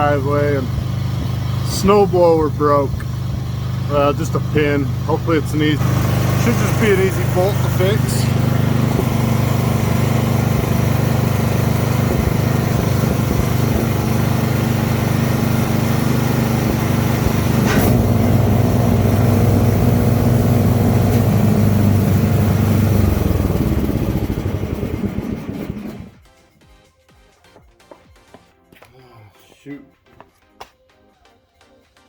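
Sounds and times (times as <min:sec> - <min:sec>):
snowblower engine running: 0:00.0 - 0:26.2.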